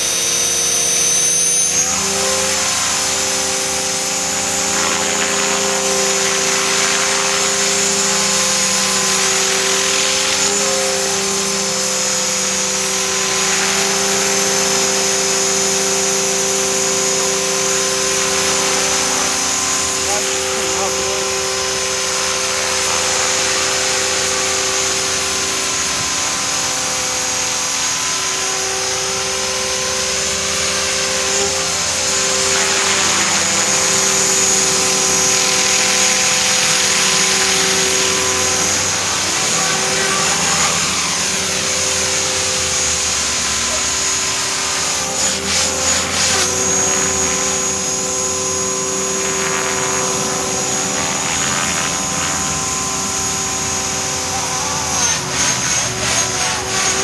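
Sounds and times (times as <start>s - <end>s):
electric motor whining: 0.0s - 57.0s
helicopter rotors buzzing: 0.0s - 57.0s.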